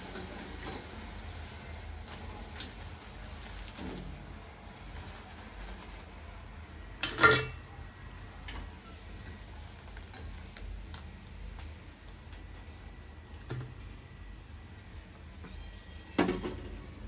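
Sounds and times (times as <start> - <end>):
oil crackling while deep-frying: 0.0 - 15.0.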